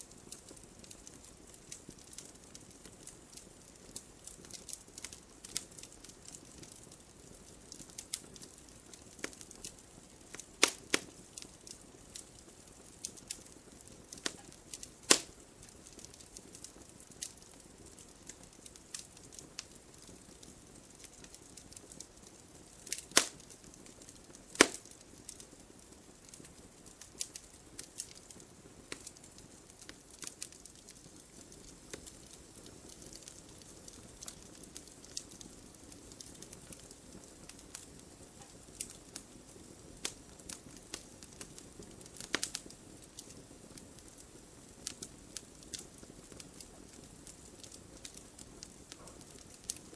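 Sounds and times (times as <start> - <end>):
burning logs crackling and popping: 0.0 - 49.9
soft fire hiss: 0.0 - 49.9.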